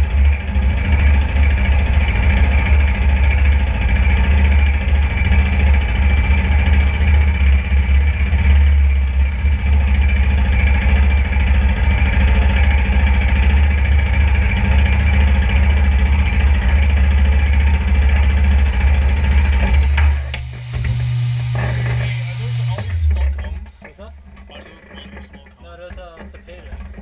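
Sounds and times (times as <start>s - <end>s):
motorcycle engine at low revs: 0.0s - 27.0s.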